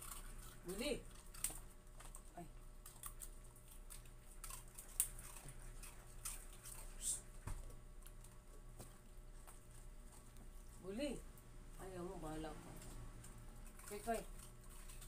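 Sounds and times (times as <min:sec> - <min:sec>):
puppies chewing treats: 0:00.0 - 0:11.5, 0:12.5 - 0:15.0.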